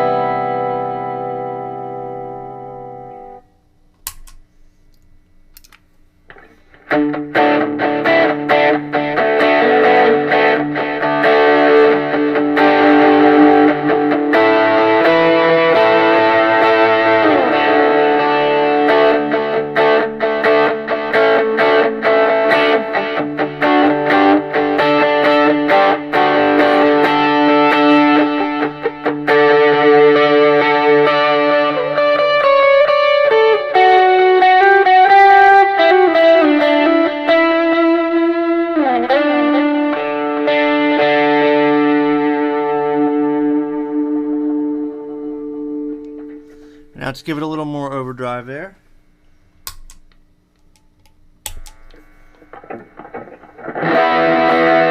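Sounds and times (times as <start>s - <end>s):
overdriven electric guitar chords: 0.0s - 48.5s, 49.6s - 54.9s.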